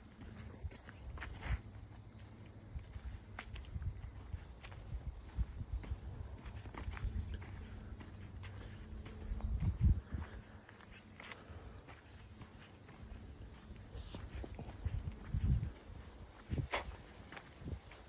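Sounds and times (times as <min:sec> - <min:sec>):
footsteps on forest trail: 0:00.0 - 0:18.0
insect chorus drone: 0:00.0 - 0:18.0.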